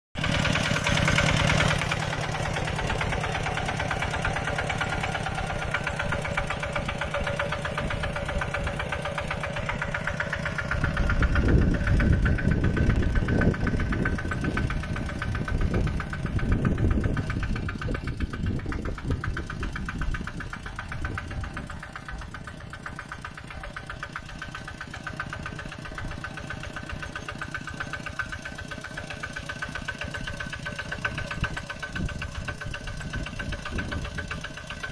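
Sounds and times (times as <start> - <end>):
tractor engine chugging: 0.2 - 34.9.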